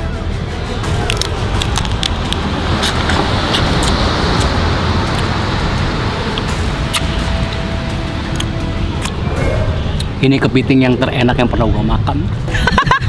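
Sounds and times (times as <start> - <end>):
wind on microphone: 0.0 - 12.6
low rumble: 0.0 - 13.0.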